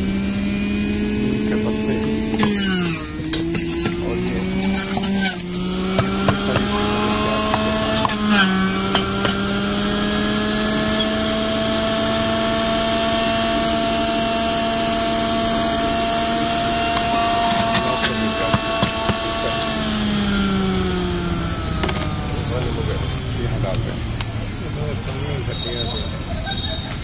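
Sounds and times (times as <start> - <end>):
produce crunching in juicer: 0.0 - 24.7
electric juicer motor humming: 0.0 - 27.0.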